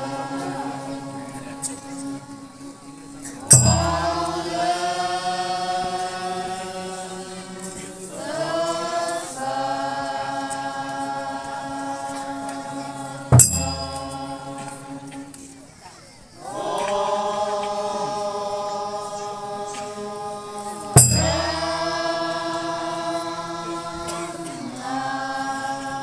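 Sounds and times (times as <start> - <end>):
group of voices chanting: 0.0 - 26.0.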